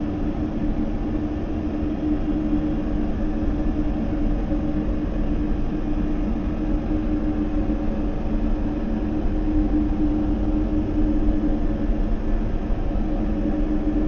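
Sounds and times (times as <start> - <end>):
held droning tone: 0.0 - 14.0.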